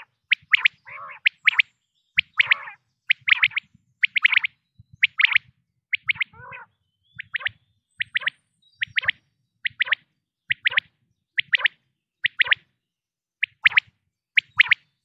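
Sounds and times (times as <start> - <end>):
quail calling: 0.0 - 12.6.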